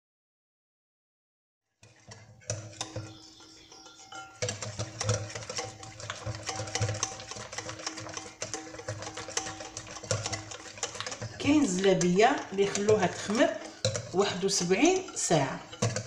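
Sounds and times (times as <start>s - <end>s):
spoon stirring batter in glass bowl: 1.8s - 16.0s.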